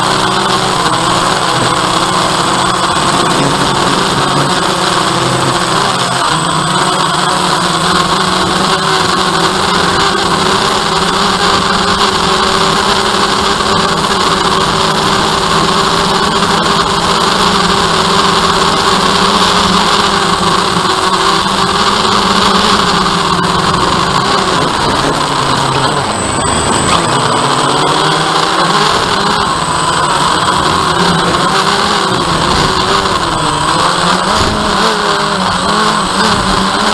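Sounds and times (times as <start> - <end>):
drone propellers humming: 0.0 - 36.9.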